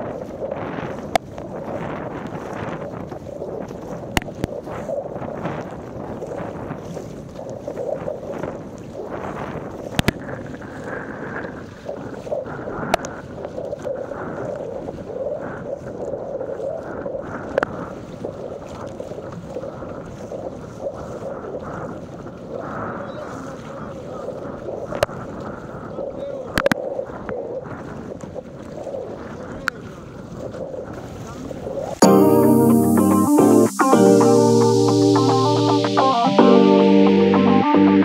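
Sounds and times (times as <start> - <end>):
water rushing along a hull: 0.0 - 36.0
wind on microphone: 0.0 - 37.1.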